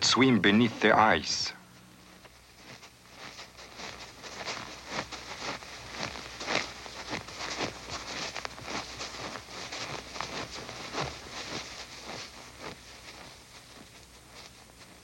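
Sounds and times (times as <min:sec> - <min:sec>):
footsteps crunching on snow: 0:00.1 - 0:15.0.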